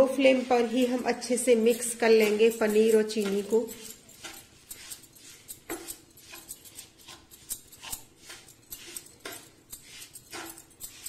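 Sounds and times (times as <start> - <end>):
spatula scraping frying pan: 0.0 - 11.0.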